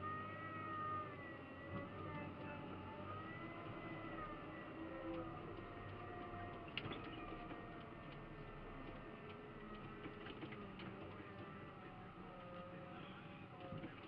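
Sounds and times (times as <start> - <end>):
diesel engine and hydraulics: 0.0 - 14.0.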